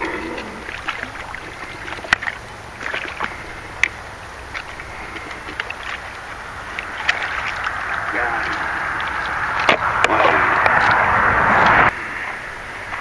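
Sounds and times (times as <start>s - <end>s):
fish thrashing in water: 0.0s - 11.9s
water splashing and sloshing: 0.0s - 13.0s.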